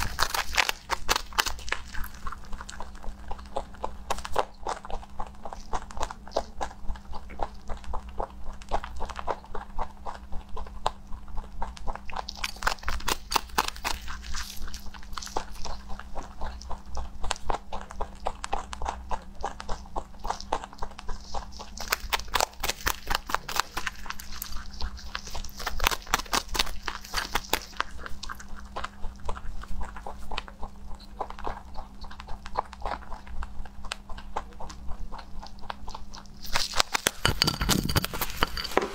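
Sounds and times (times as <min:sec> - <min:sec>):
rabbit crunching hay: 0:00.0 - 0:38.9
steady low hum: 0:00.0 - 0:38.9.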